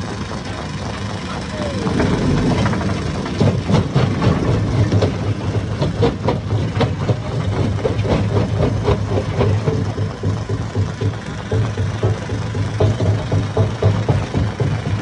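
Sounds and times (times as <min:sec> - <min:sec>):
stone crusher machine hum: 0:00.0 - 0:15.0.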